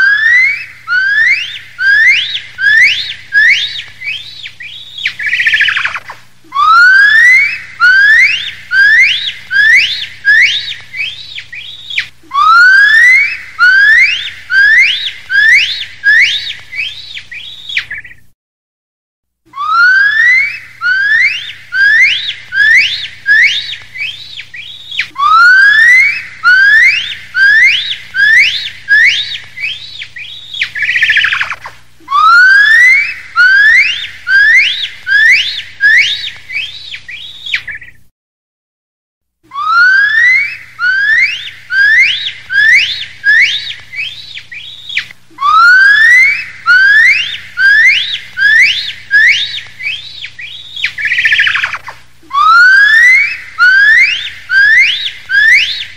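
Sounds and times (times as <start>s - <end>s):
gibbon whooping calls: 0.0s - 18.2s, 19.5s - 38.0s, 39.5s - 55.9s.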